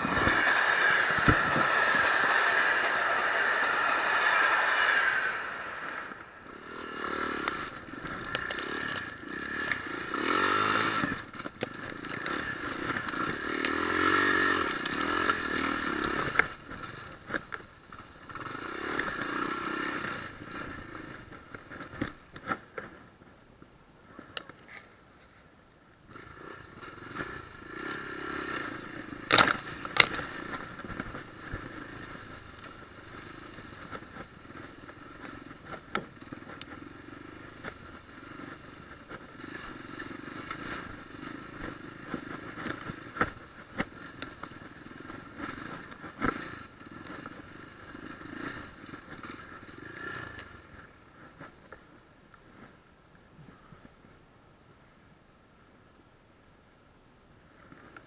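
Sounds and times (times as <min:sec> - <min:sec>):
motorcycle engine running: 0:00.0 - 0:22.8, 0:26.2 - 0:52.8.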